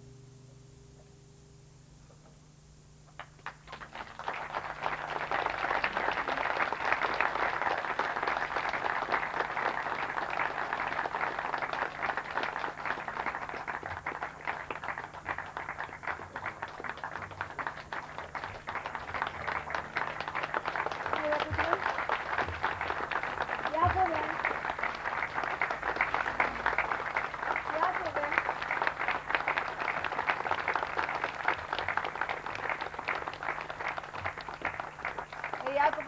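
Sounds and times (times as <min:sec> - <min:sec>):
low electrical hum: 0:00.0 - 0:36.0
audience applauding: 0:03.2 - 0:36.0.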